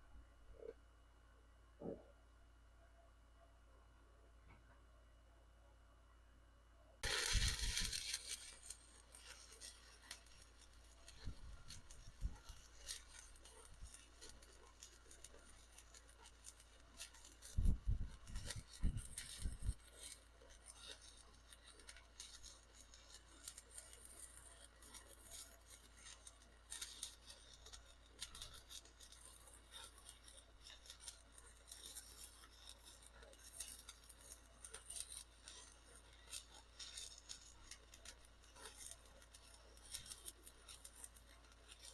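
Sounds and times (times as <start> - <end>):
welding arc crackling: 7.0 - 41.9.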